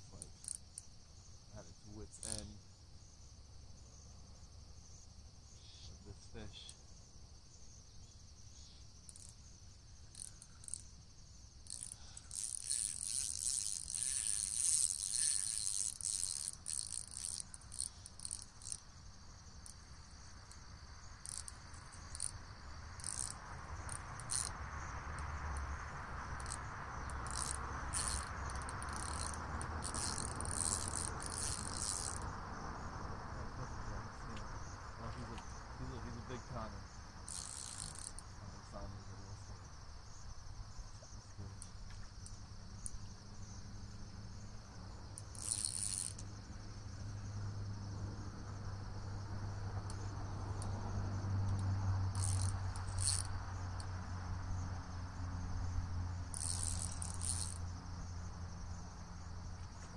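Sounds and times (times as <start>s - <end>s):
insects chirping chorus: 0.0s - 59.9s.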